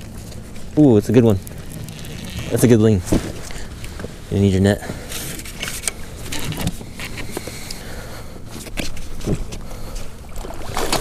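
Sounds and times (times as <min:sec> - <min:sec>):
low rumble of wind: 0:00.0 - 0:11.0.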